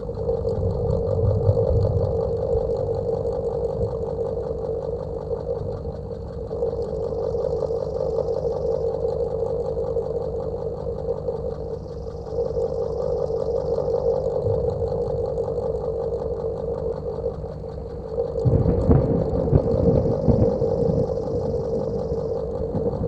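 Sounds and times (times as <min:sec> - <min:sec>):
electric fan humming: 0:00.0 - 0:23.0.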